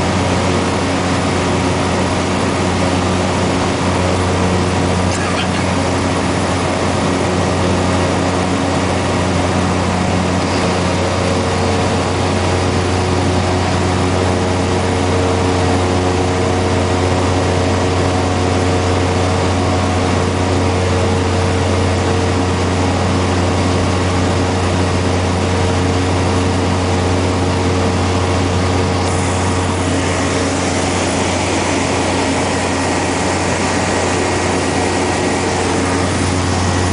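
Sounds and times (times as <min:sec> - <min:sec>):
turboprop engine droning: 0:00.0 - 0:36.9.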